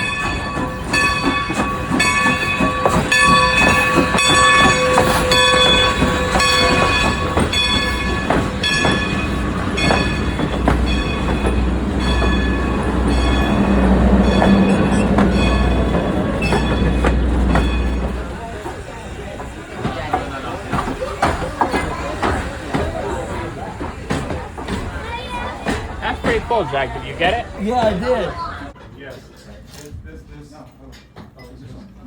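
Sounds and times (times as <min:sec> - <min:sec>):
locomotive rumbling past: 0:00.0 - 0:28.8
steam locomotive bell ringing: 0:00.0 - 0:28.8.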